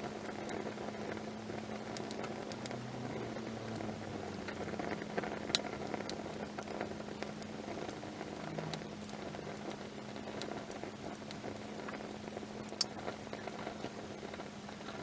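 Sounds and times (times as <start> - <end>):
campfire flames rushing: 0.0 - 15.0
wood crackling and popping: 0.0 - 15.0.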